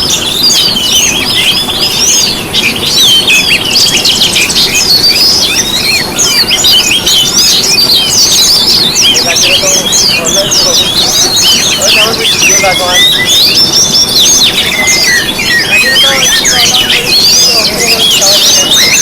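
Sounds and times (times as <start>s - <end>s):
songbirds chirping and twittering: 0.0s - 19.0s.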